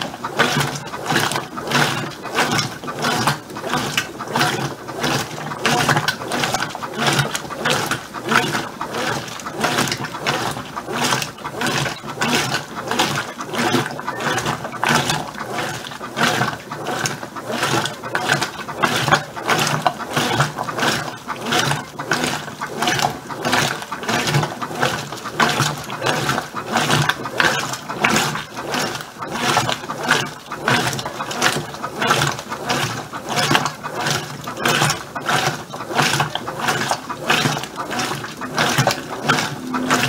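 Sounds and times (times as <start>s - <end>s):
washing machine agitator whirring: 0.0s - 40.0s
water sloshing and splashing: 0.0s - 40.0s.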